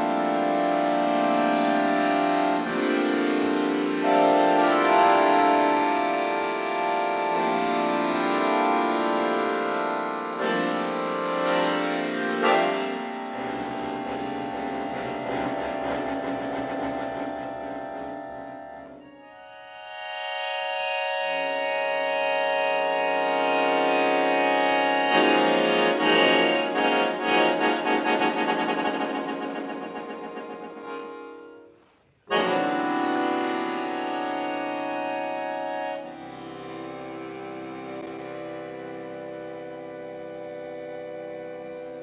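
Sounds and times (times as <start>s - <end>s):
accordion chords: 0.0s - 42.0s.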